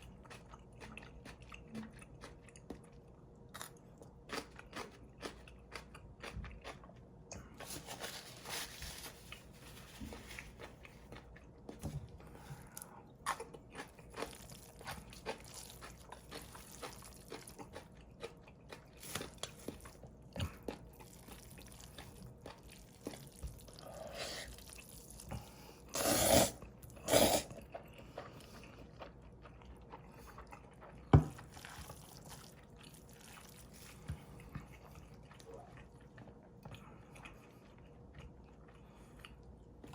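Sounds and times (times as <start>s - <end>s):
wet chewing with mouth clicks: 0.0s - 7.7s, 10.1s - 25.9s, 26.5s - 39.9s.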